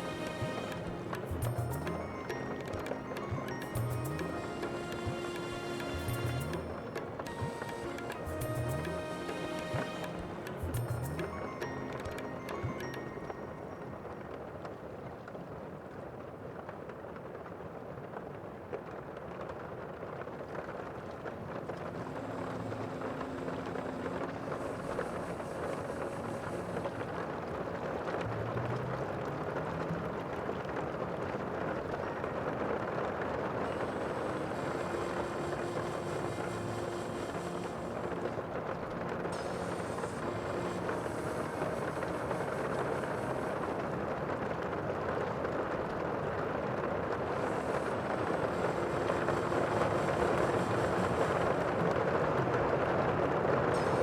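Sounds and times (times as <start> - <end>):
sea waves: 0.0 - 15.0, 21.8 - 54.0
wind: 0.0 - 54.0.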